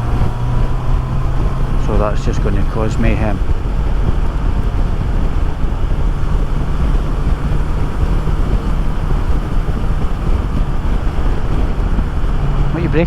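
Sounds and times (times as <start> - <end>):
motorcycle engine drone: 0.0 - 13.0
wind rushing over microphone: 0.0 - 13.0.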